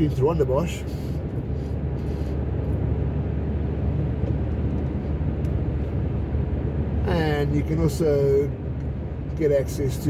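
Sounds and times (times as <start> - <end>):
car engine and tyre noise: 0.0 - 10.0.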